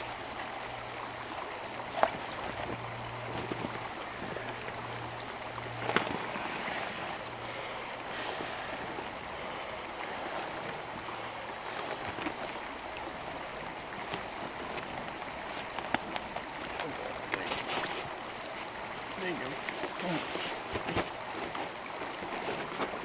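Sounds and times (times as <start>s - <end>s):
flowing water: 0.0s - 23.0s.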